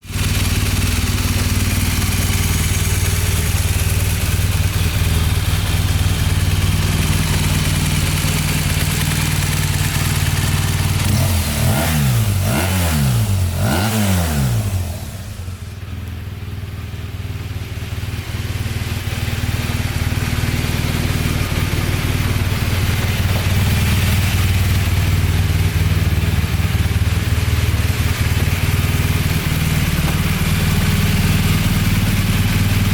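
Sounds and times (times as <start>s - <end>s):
motorcycle engine idling: 0.0s - 32.9s
motorcycle throttle blips: 0.1s - 13.9s, 14.5s - 32.9s.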